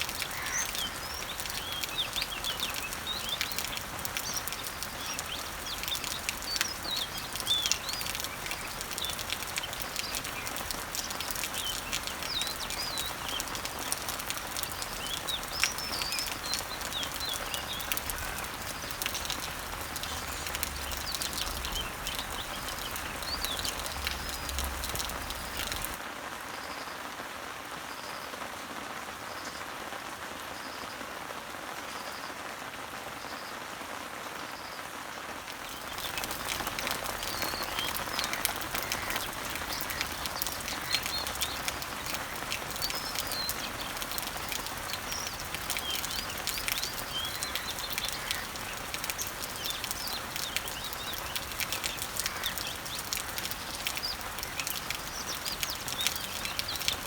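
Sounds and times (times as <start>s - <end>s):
birds chirping: 0.0s - 26.0s, 35.5s - 57.0s
rain on leaves: 0.0s - 57.0s.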